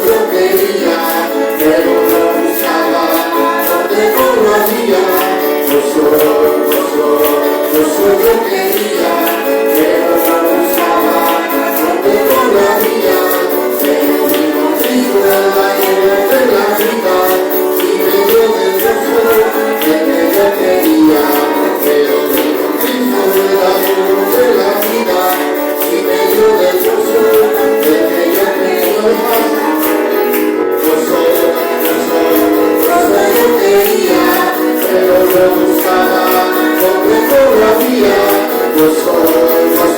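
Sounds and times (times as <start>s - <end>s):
congregation singing a hymn: 0.0s - 39.9s
tambourine shaken and struck: 0.0s - 39.9s.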